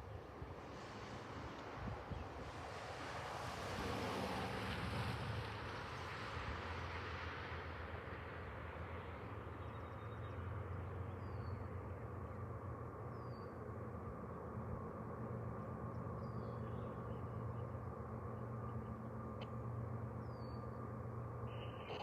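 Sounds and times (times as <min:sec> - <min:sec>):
distant diesel locomotive drone: 0:00.0 - 0:22.0.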